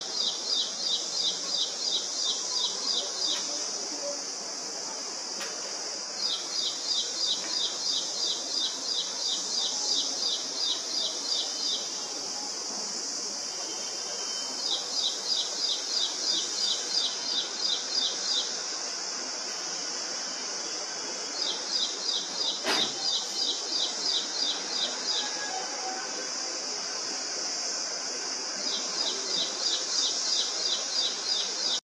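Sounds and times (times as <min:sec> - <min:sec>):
songbird singing: 0:00.0 - 0:04.2, 0:06.2 - 0:19.0, 0:20.2 - 0:26.2, 0:28.6 - 0:31.8
steady high hiss: 0:00.0 - 0:31.8.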